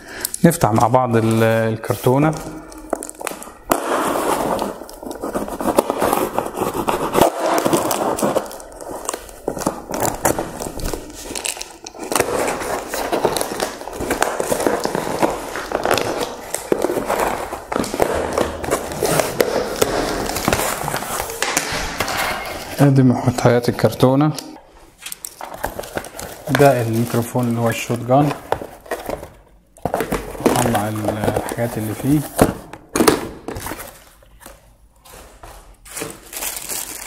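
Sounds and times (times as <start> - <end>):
packing tape tearing: 2.0 - 22.8, 25.0 - 37.0.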